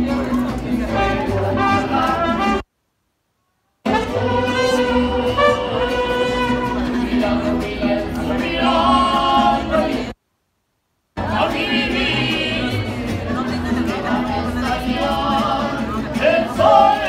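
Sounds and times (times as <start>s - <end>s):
mariachi band playing: 0.0s - 2.7s, 3.8s - 10.2s, 11.2s - 17.0s.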